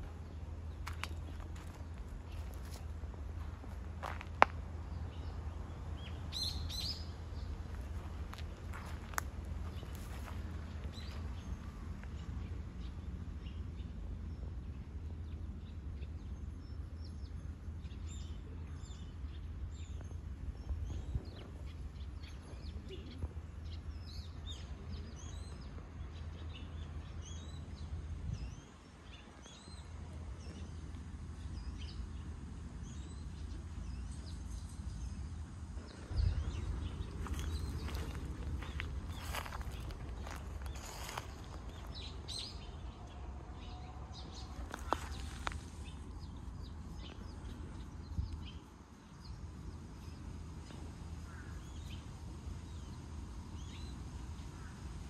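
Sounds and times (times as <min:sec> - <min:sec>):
birds chirping: 0:00.0 - 0:55.0
low outdoor rumble: 0:00.0 - 0:55.0.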